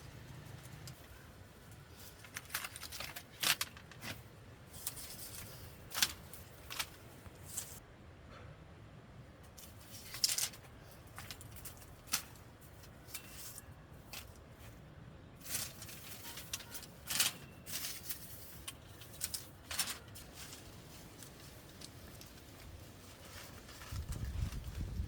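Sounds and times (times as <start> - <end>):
rustles and clicks of handling: 0.0 - 8.5, 9.4 - 25.0.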